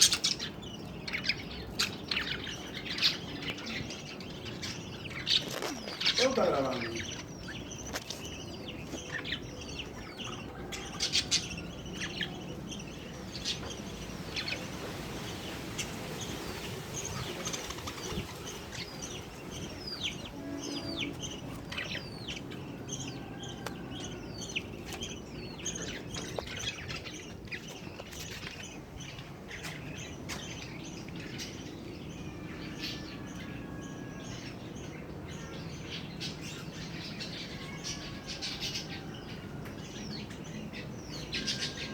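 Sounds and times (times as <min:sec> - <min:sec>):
small bird chirping: 0:00.0 - 0:41.9.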